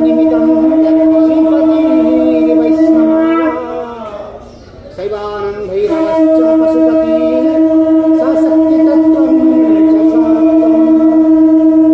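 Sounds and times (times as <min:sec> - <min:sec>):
conch shell blown: 0:00.0 - 0:04.5, 0:05.8 - 0:11.9
faint chanting voices: 0:00.0 - 0:11.9.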